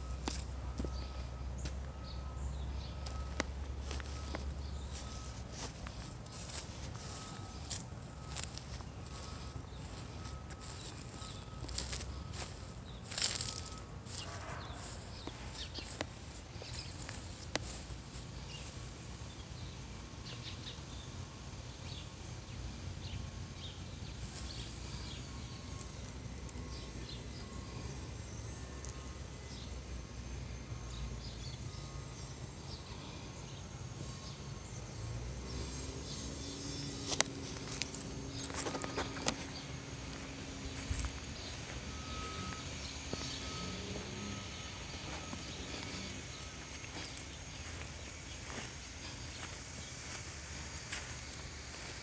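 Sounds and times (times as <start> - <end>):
bird or insect chirps: 0.0 - 52.0
low engine-like hum: 0.0 - 52.0.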